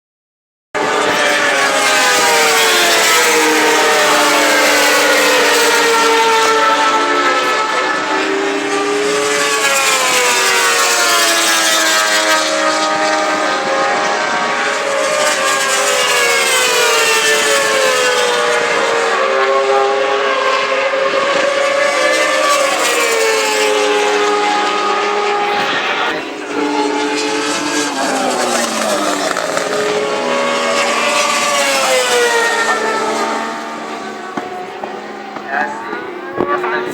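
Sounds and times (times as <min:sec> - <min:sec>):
racing motorcycles at high revs: 0:00.8 - 0:36.9.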